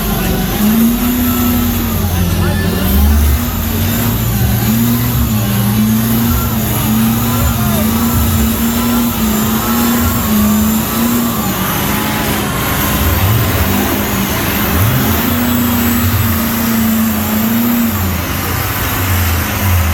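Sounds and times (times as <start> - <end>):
truck engine revving under load: 0.0 - 19.9.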